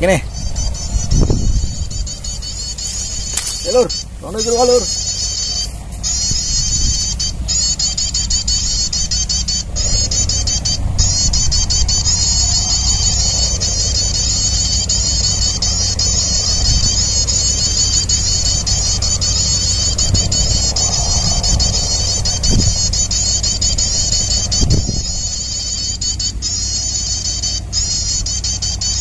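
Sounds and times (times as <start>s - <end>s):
high-pitched bird call trill: 0.0s - 29.0s
wind rumble on microphone: 0.0s - 29.0s.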